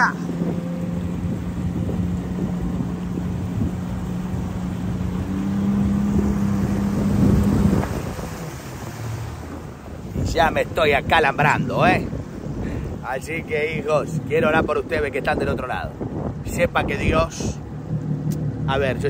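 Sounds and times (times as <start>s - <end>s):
jet ski engine droning: 0.0s - 19.0s
water and wind noise: 0.0s - 19.0s.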